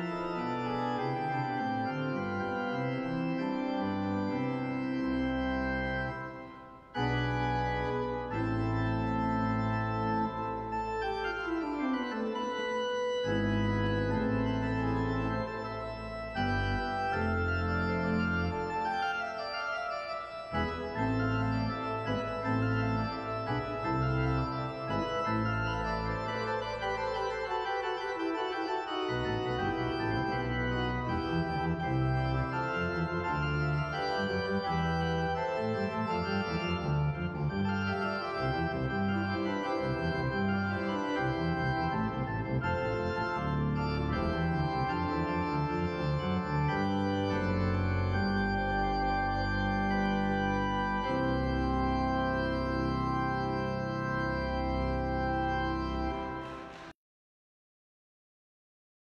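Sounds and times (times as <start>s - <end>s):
church organ playing chords: 0.0s - 56.9s.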